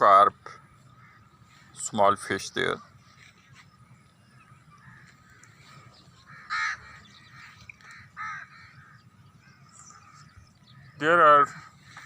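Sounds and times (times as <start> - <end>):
harsh bird calls: 0.0 - 12.0
low steady background: 0.0 - 12.0.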